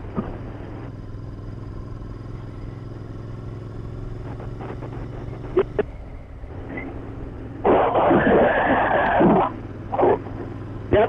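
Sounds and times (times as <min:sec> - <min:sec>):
motorcycle engine droning: 0:00.0 - 0:11.0
sharp engine blips: 0:00.0 - 0:11.0.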